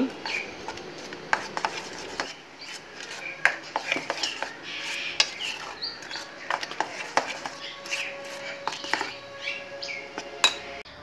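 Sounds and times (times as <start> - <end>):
metal spoon scraping steel bowl: 0.1 - 10.8.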